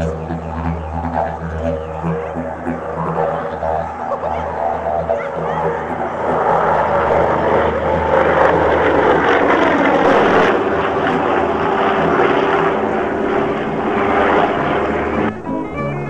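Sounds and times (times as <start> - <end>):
propeller airliner engines droning: 0.0 - 16.0.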